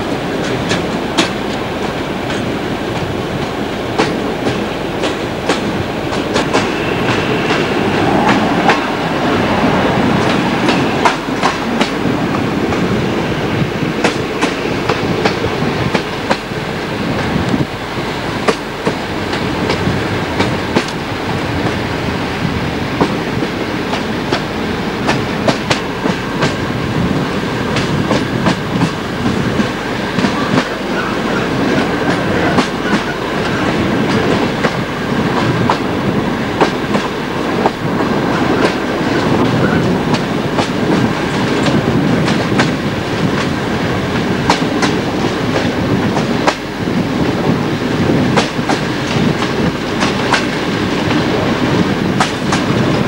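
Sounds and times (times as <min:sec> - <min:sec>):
clickety-clack over rail joints: 0:00.0 - 0:53.0
train wheels rumbling: 0:00.0 - 0:53.0.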